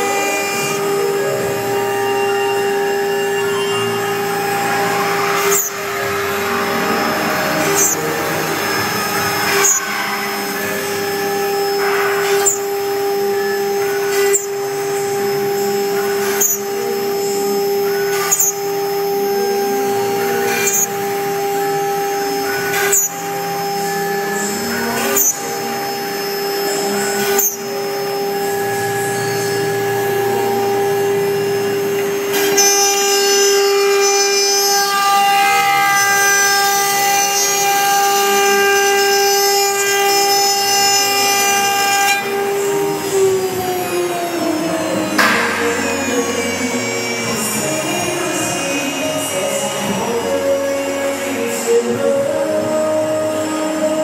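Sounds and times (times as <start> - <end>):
router spindles whining: 0.0 - 54.0.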